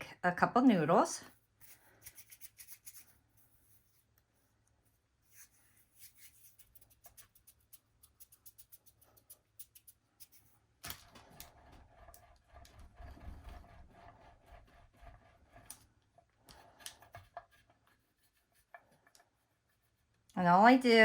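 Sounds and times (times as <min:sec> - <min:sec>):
hands rolling clay: 0:01.2 - 0:20.3.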